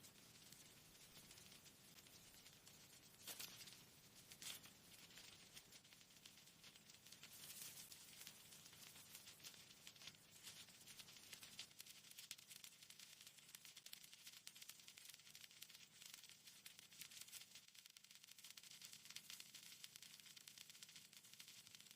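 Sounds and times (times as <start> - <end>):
faint crackling and rustling: 0.0 - 21.9.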